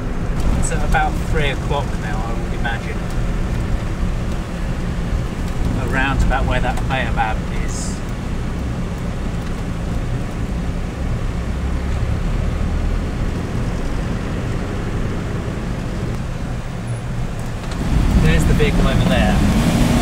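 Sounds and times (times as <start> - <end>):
engine and tyres rumbling inside car: 0.0 - 20.0.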